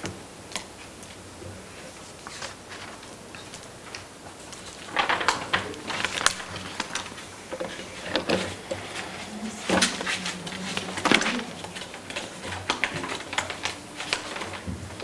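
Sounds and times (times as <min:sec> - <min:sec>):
papers rustling: 0:00.6 - 0:15.0.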